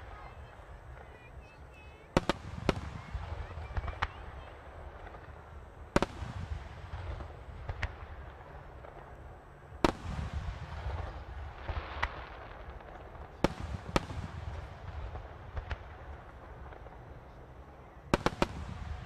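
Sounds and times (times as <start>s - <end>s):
continuous low rumble: 0.0s - 19.0s
firework crackling: 0.0s - 19.0s.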